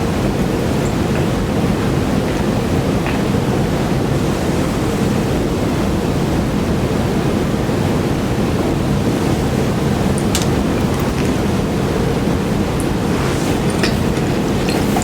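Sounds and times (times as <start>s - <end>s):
steady hiss with low rumble: 0.0s - 15.0s.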